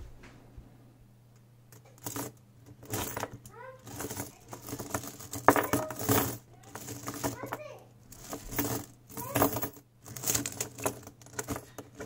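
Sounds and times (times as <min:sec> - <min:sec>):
metal coins clinking: 0:01.8 - 0:12.0.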